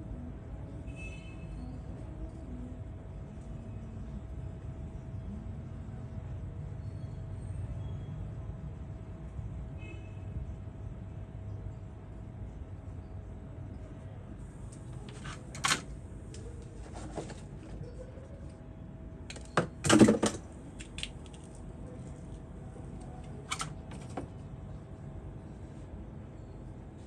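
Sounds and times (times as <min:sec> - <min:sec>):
low workshop hum: 0:00.0 - 0:27.0.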